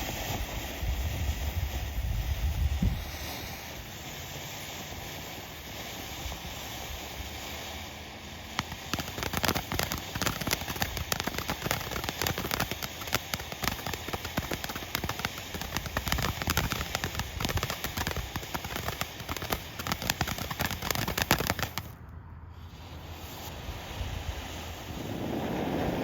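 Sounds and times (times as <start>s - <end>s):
firework crackling: 0.0s - 26.0s.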